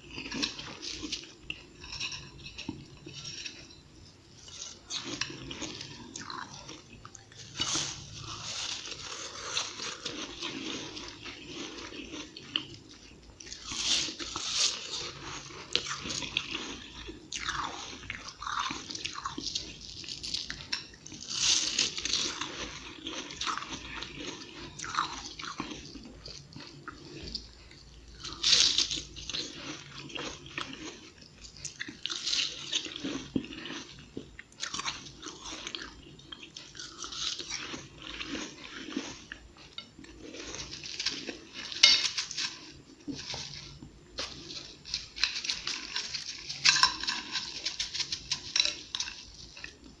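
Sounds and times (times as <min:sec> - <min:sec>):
ice being chewed: 0:00.0 - 0:50.0.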